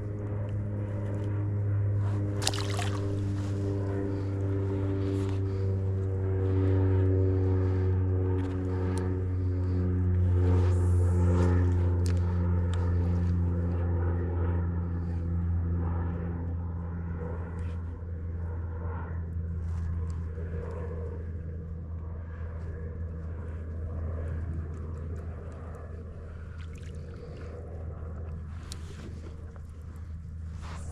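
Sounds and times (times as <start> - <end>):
distant engine drone: 0.0 - 30.9.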